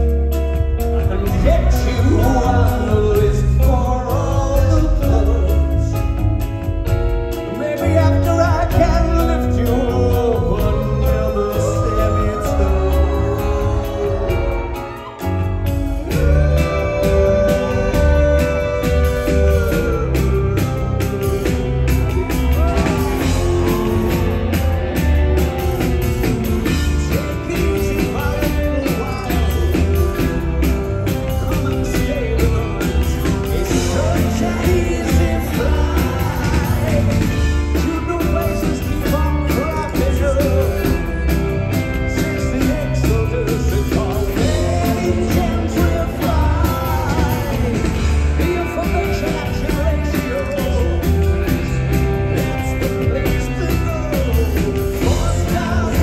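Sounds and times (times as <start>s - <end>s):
rock band playing: 0.0s - 56.0s
man singing into microphone: 1.0s - 6.2s, 7.5s - 24.4s, 26.2s - 56.0s.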